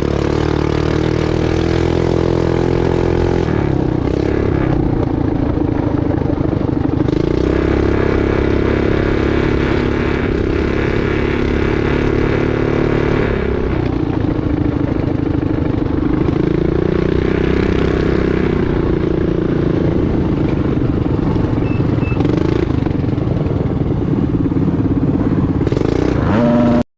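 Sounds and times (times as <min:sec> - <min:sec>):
mini bike engine revving: 0:00.0 - 0:26.8.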